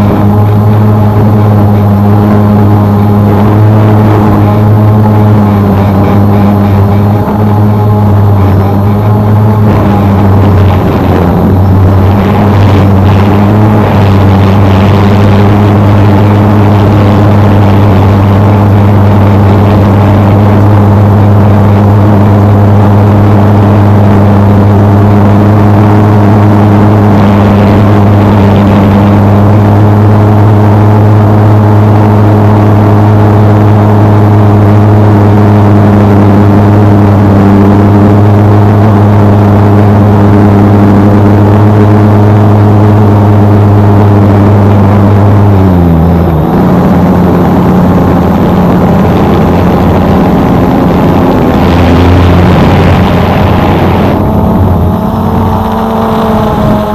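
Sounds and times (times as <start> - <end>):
drone motors humming: 0.0 - 56.9.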